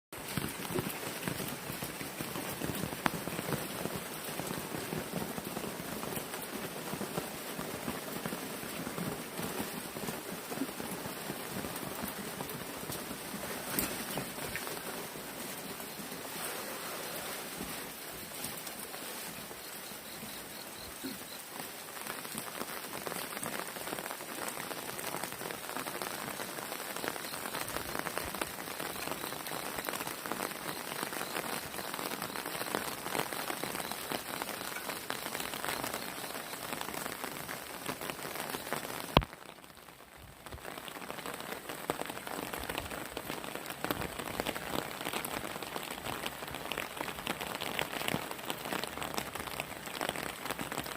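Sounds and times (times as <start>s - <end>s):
heavy rain pattering: 0.1s - 50.9s.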